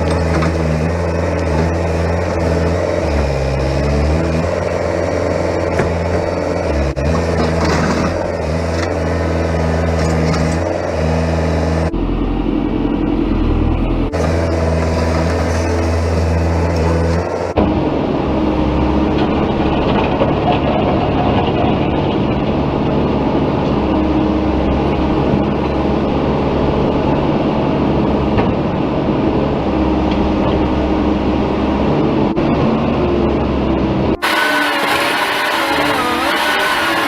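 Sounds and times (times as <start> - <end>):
large vehicle engine droning: 0.0 - 37.0.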